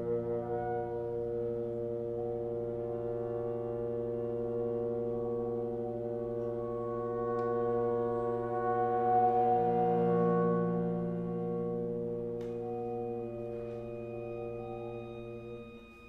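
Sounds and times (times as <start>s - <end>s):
chamber ensemble sustained chord: 0.0s - 16.0s.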